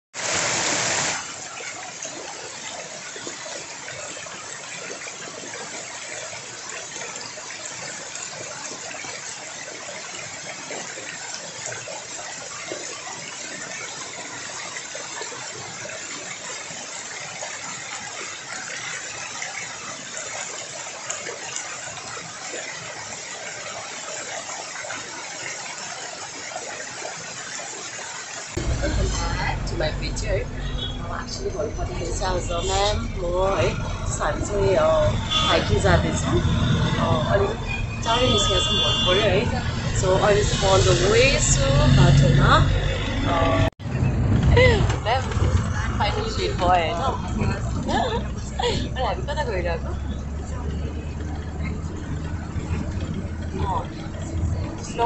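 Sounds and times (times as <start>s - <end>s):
waterfall pouring into pool: 0.2s - 55.0s.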